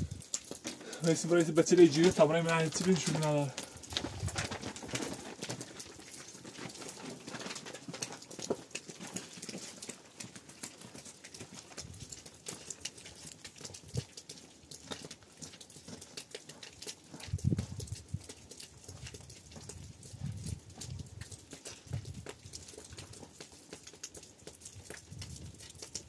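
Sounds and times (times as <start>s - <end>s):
rain patter and drips: 0.0s - 26.0s.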